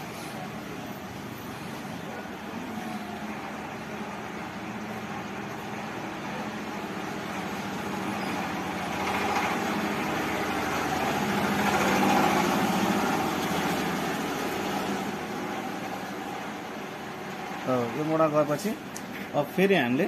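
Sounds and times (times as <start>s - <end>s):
vehicle engine hum: 0.0s - 19.3s.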